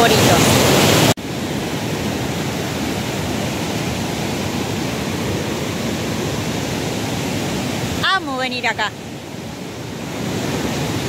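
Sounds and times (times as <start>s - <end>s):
river water rushing over rapids: 0.0s - 11.0s.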